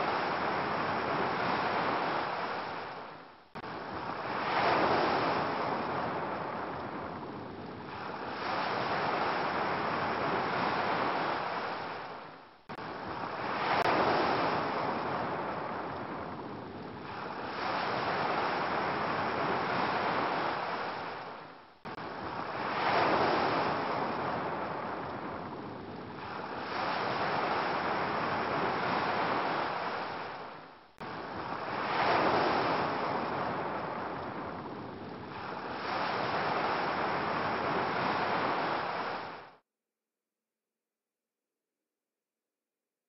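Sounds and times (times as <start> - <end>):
ocean waves washing in: 0.0 - 39.6.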